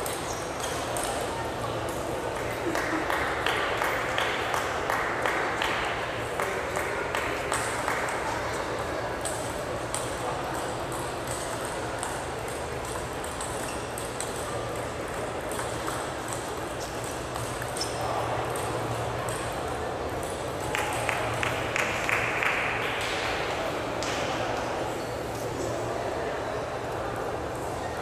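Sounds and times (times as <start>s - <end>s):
murmur of voices: 0.0s - 28.0s.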